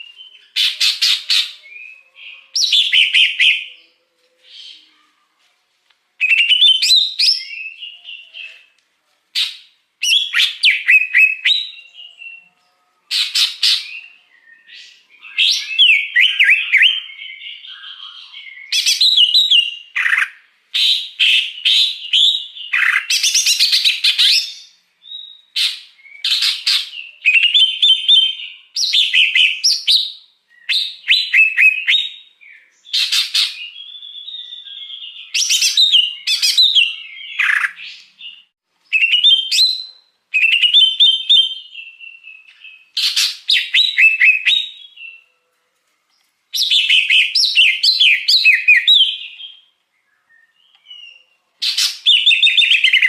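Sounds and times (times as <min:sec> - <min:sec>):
bird singing whistled phrases: 0:00.0 - 0:05.0, 0:06.2 - 0:08.7, 0:09.4 - 0:45.3, 0:46.6 - 0:53.0.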